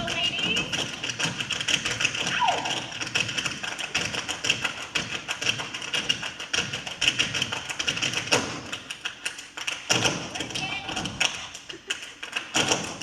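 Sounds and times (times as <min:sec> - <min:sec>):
feet tapping on stage floor: 0:00.0 - 0:13.0.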